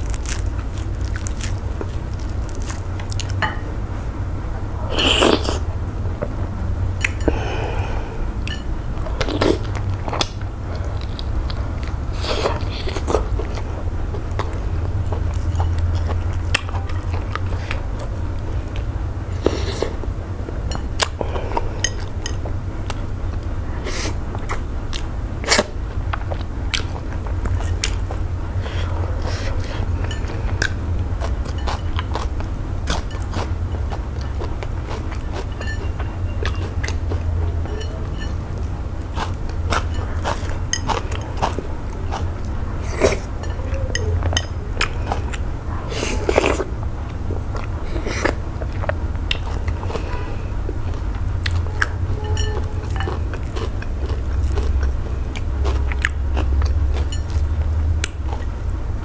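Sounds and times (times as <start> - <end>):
chewing and wet mouth sounds: 0.0 - 4.2, 4.8 - 6.4, 7.0 - 59.0
steady low hum: 0.0 - 59.0.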